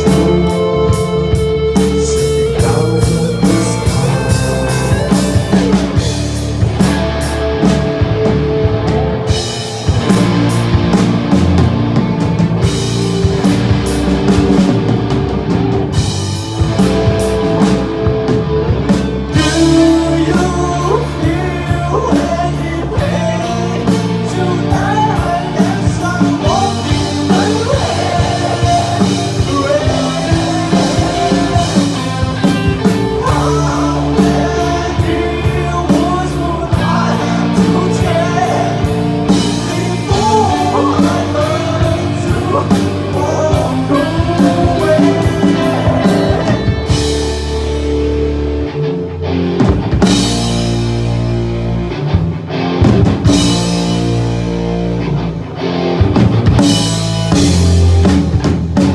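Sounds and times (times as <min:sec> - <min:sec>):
rock band playing live: 0:00.0 - 0:58.9.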